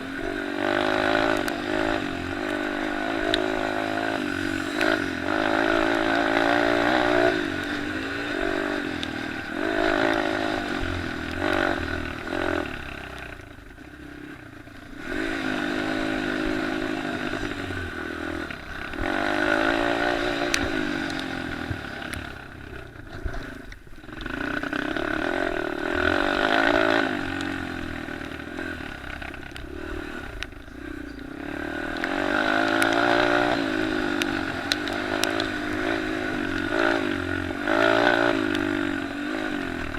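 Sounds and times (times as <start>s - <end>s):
motorbike engines revving: 0.0s - 39.9s.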